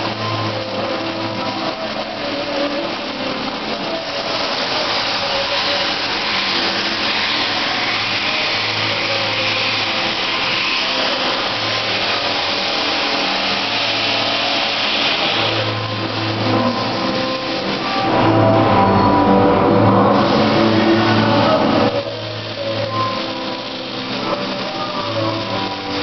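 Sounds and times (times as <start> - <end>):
arc welding hiss: 0.0 - 26.0.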